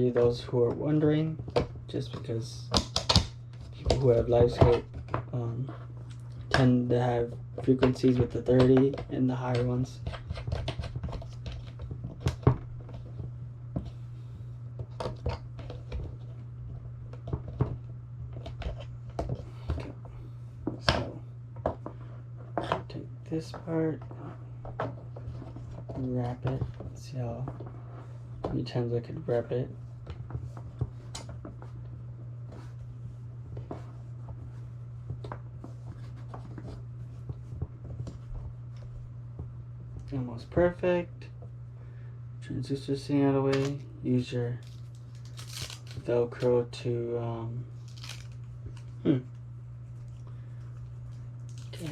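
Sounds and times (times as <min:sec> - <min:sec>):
cable rubbing and rustling: 0:00.0 - 0:40.8, 0:43.4 - 0:46.6, 0:47.7 - 0:49.2, 0:49.8 - 0:51.9
steady low hum: 0:00.0 - 0:51.9.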